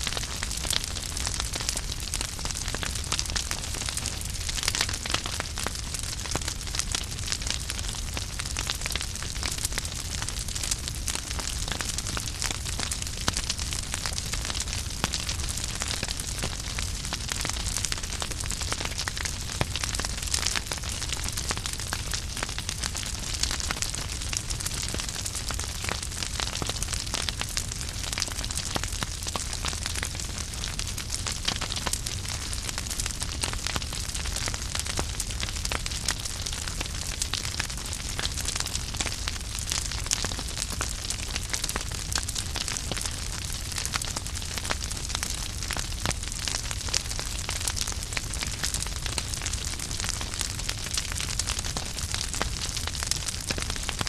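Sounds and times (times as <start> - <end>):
flames hissing and rumbling: 0.0 - 53.8
logs crackling and popping: 0.0 - 54.0.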